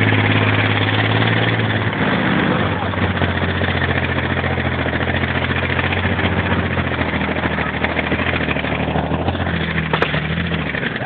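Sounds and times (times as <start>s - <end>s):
military vehicle engine running: 0.0s - 11.0s
rushing and rattling noise: 0.0s - 11.0s.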